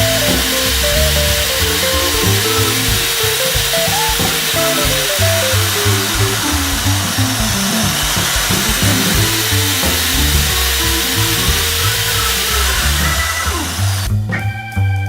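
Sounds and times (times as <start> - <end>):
impact drill whining: 0.0 - 14.1
background music with bass: 0.0 - 15.0.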